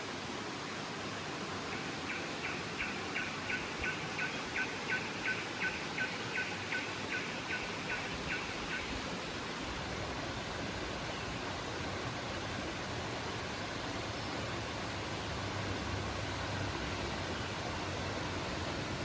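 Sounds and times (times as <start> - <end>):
forest river rushing: 0.0 - 19.0.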